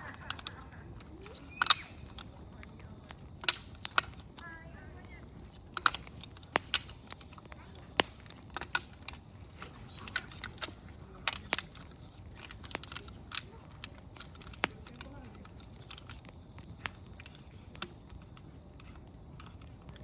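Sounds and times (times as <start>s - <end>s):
campfire crackling: 0.0s - 20.0s
faint steady hiss: 0.0s - 20.0s
firewood popping: 0.0s - 20.0s.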